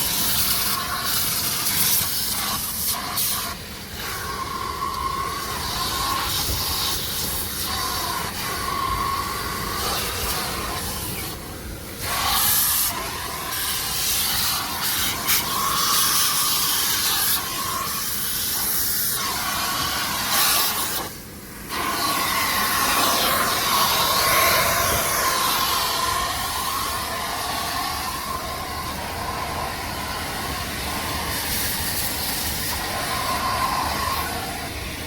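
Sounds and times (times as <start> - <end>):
vacuum hose sucking air: 0.0 - 35.0.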